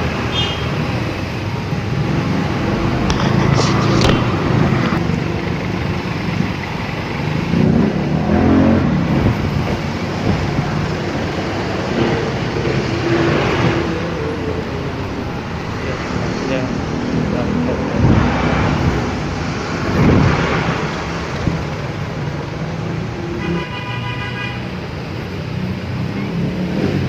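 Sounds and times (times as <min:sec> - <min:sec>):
motorcycle and car engines: 0:00.0 - 0:23.8, 0:24.5 - 0:27.0.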